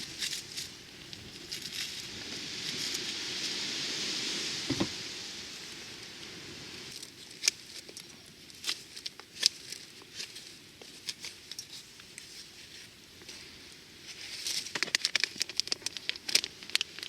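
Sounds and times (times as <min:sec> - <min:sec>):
campfire crackling: 0:00.0 - 0:17.0
soft hiss: 0:00.0 - 0:17.0.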